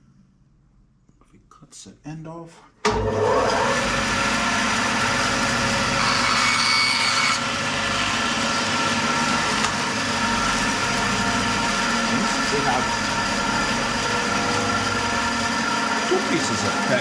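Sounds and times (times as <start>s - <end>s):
power saw cutting plastic tubing: 2.8s - 17.0s.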